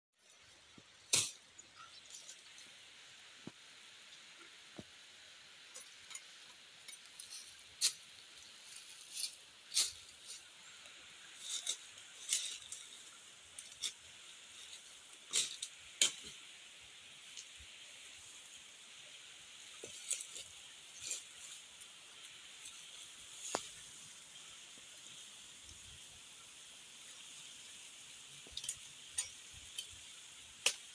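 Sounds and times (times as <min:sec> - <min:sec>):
steady high hiss: 0:00.2 - 0:30.9.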